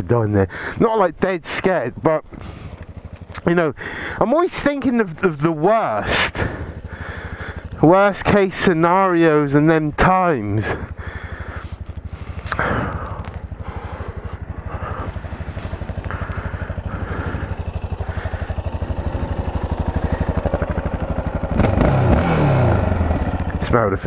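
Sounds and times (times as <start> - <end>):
motorcycle engine idling: 0.1 - 24.0.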